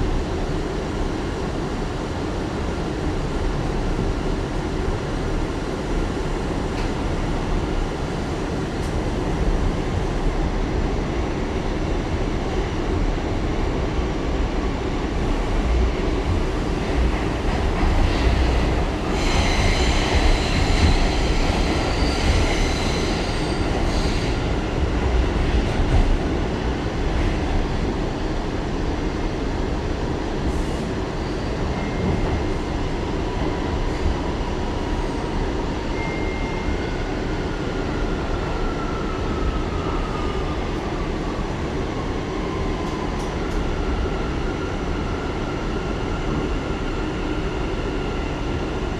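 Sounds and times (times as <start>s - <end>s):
subway car rumbling on rails: 0.0s - 48.9s.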